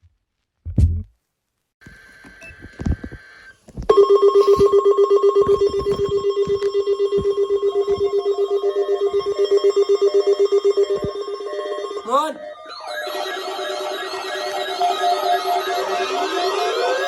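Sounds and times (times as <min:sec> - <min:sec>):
pulsing electronic alarm: 0:02.3 - 0:17.0.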